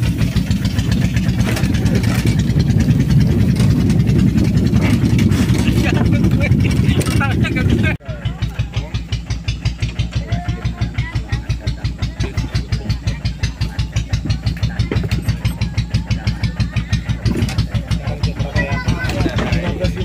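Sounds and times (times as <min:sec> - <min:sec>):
motorcycle engine pulsing: 0:00.0 - 0:20.0.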